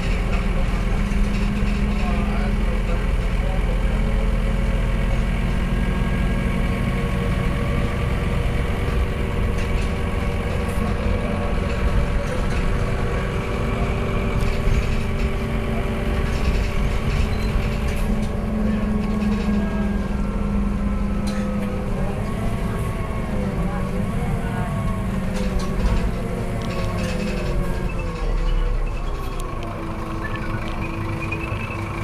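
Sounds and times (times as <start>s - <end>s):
bus engine running: 0.0s - 32.0s.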